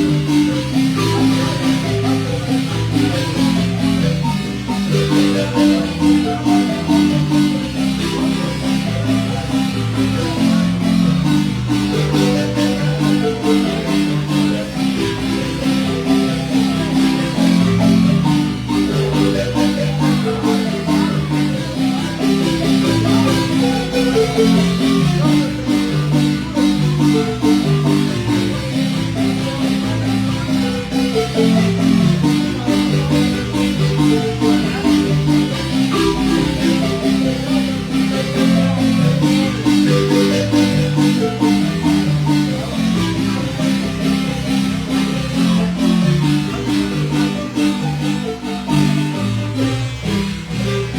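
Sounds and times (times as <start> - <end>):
marimba music: 0.0 - 50.9.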